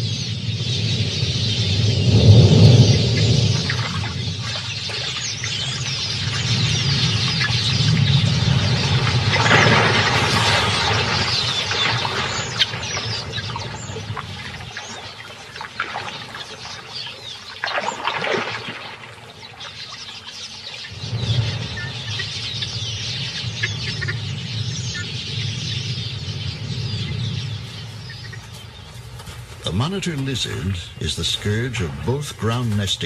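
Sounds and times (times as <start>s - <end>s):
low rumble: 0.0s - 14.8s, 20.9s - 33.0s
birds chirping and calling: 0.0s - 33.0s.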